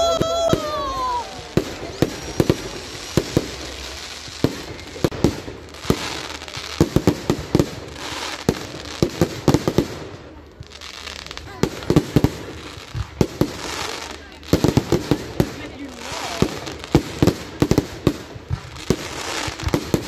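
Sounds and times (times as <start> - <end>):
constant hiss: 1.2 - 20.0.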